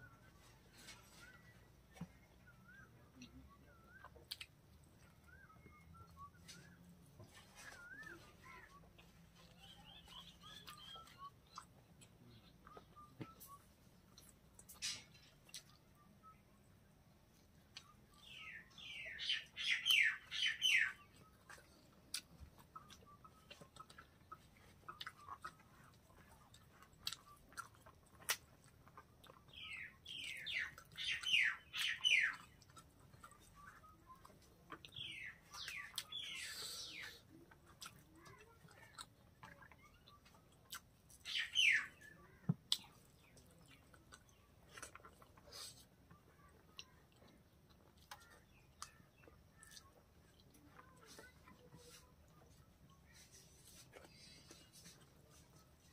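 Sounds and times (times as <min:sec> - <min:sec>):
faint clicks of eating: 0:00.0 - 0:18.7, 0:20.6 - 0:55.9
bird chirping: 0:00.0 - 0:55.9.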